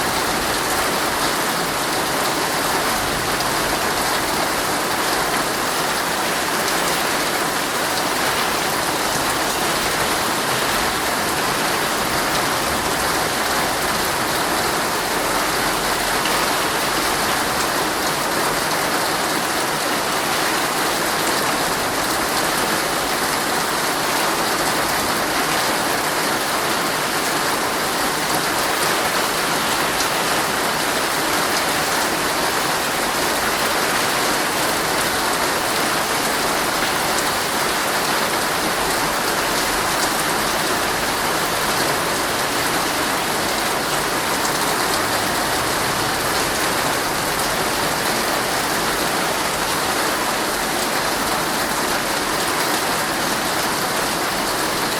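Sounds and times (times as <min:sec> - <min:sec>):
heavy rain on tent fabric: 0:00.0 - 0:54.9.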